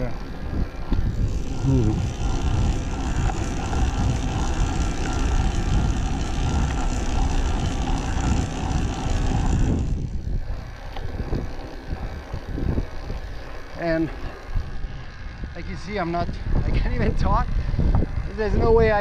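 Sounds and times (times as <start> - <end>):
electric bike motor and tyres rumbling: 0.0 - 19.0.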